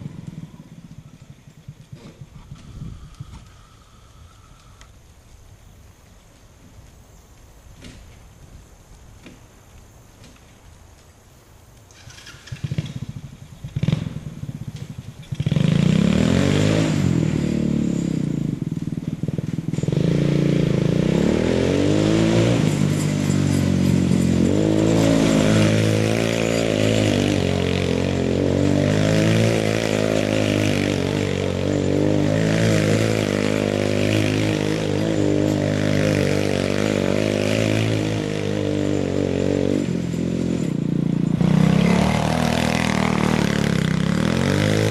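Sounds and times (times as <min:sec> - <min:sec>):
buggy engine revving: 0:00.0 - 0:03.8, 0:11.9 - 0:44.9.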